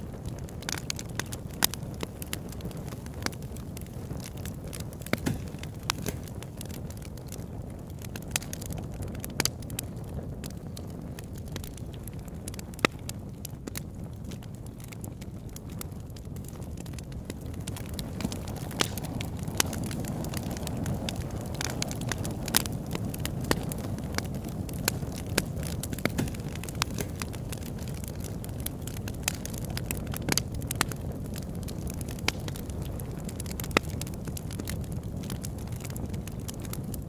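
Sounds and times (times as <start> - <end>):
log fire crackling and popping: 0.0 - 37.0
low rumble of fire: 0.0 - 37.0.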